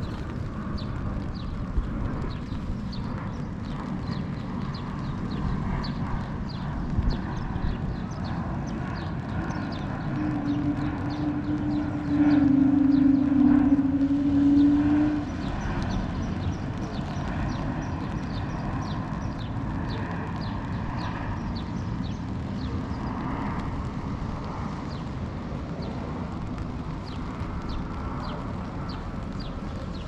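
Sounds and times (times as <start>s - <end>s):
low street rumble: 0.0s - 30.0s.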